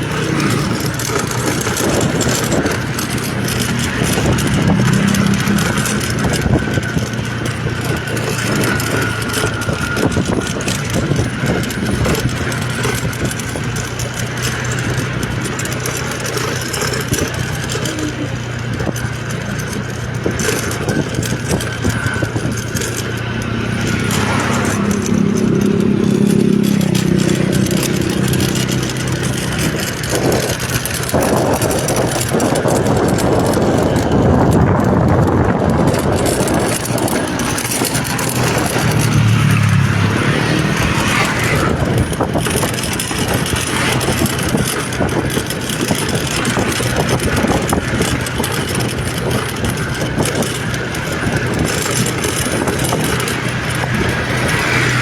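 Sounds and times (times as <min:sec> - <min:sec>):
road or wind noise: 0:00.0 - 0:55.0
vehicle engine running: 0:00.0 - 0:55.0.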